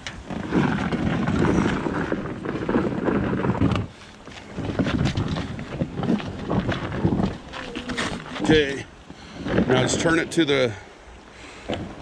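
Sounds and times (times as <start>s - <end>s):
footsteps: 0.0s - 10.2s
inflatable boat rubbing and bumping: 0.0s - 10.6s.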